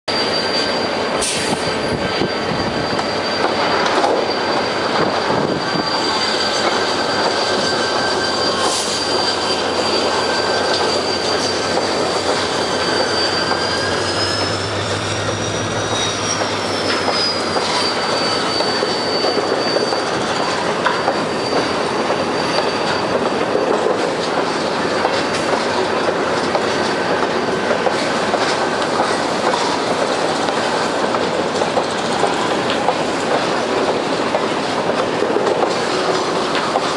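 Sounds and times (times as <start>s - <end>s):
train wheels rumbling and clattering: 0.1s - 36.9s
train wheels squealing: 0.1s - 36.9s.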